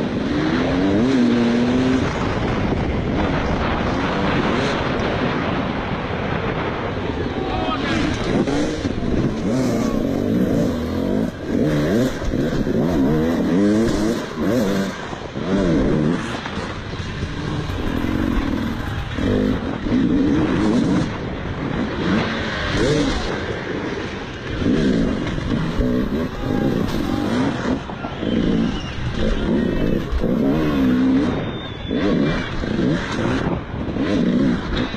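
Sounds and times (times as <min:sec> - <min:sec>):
dirt bike engine revving: 0:00.0 - 0:05.7, 0:07.6 - 0:34.9.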